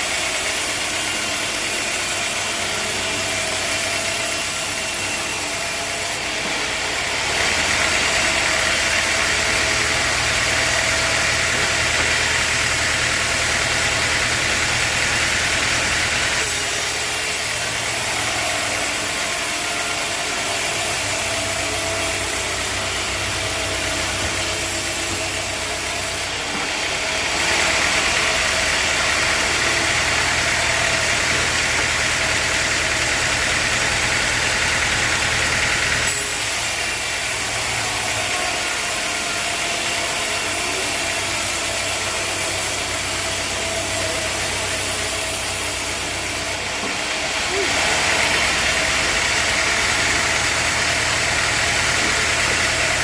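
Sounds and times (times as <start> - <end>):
loud rushing machinery noise: 0.0 - 53.0
engine hum: 2.5 - 53.0.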